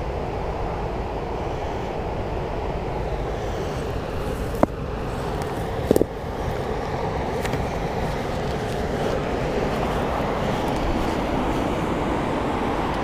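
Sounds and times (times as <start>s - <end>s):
low rushing noise: 0.0s - 13.0s.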